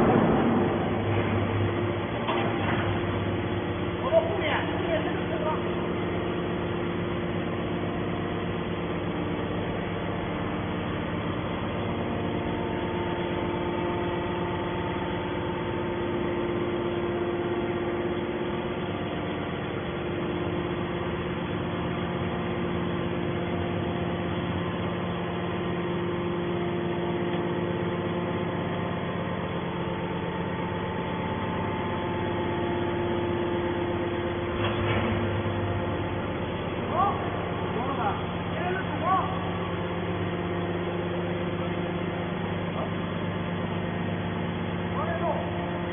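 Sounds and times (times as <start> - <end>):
hydraulic pump and motor humming: 0.0 - 45.9.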